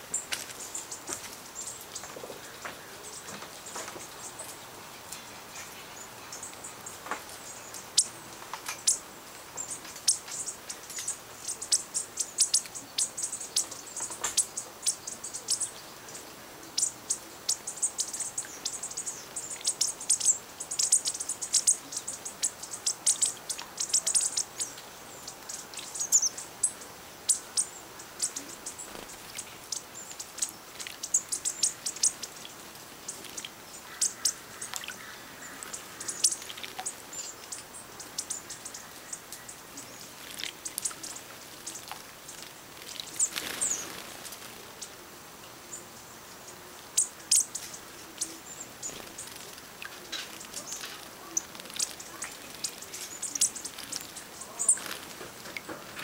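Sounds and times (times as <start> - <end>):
small songbirds twittering: 0.0 - 56.0.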